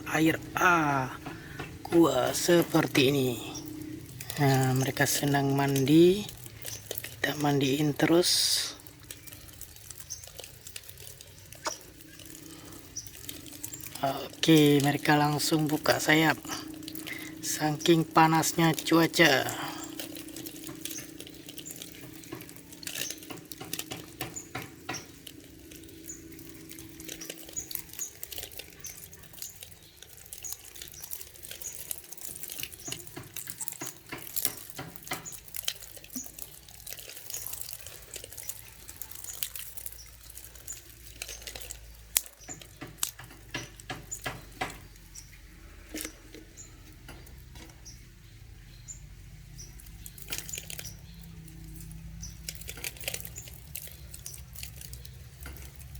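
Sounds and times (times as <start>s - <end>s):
water splashing and dripping: 0.0s - 55.9s.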